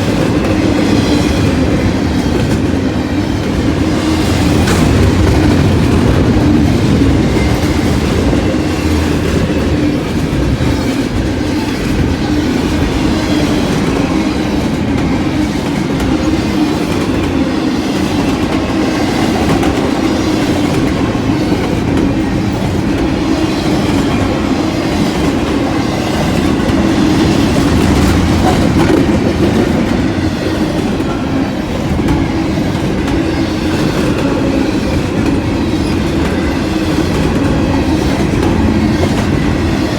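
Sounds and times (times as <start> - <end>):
steel wheels rumbling on rails: 0.0 - 39.9.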